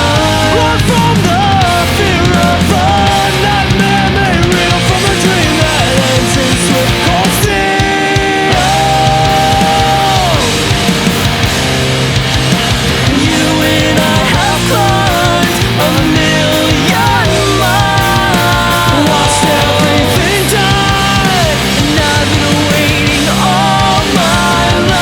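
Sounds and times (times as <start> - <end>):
bass: 0.0 - 25.0
distorted electric guitars: 0.0 - 25.0
drums: 0.0 - 25.0
punk rock instrumental: 0.0 - 25.0
sliding lead guitar melody: 0.0 - 25.0.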